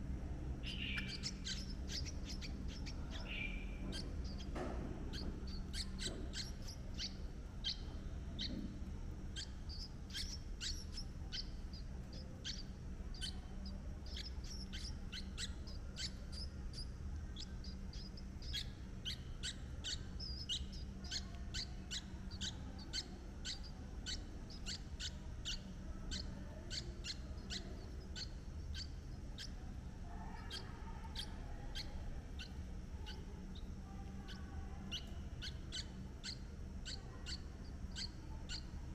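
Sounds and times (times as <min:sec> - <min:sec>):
birds chirping: 0:00.0 - 0:38.9
steady low hum: 0:00.0 - 0:38.9.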